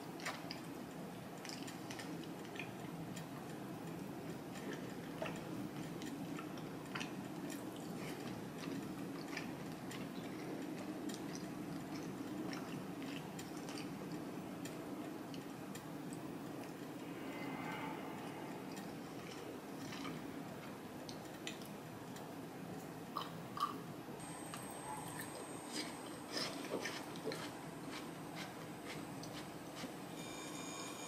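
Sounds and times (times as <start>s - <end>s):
steady low hum: 0.0s - 31.0s
person chewing: 1.4s - 22.3s, 24.5s - 30.0s.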